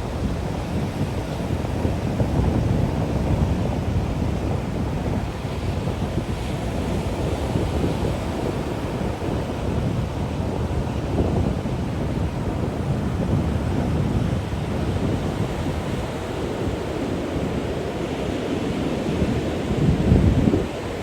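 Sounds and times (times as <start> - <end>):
low rumbling wind or surf: 0.0 - 21.0.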